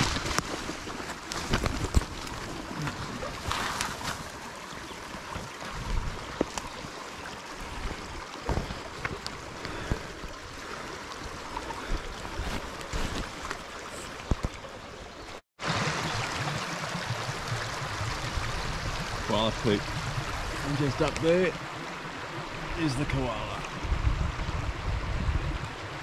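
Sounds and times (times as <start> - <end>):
creek water running over rocks: 0.0 - 26.0.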